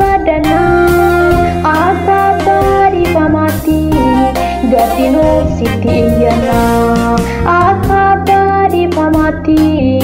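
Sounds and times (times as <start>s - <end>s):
gospel song with sung vocals: 0.0s - 9.4s.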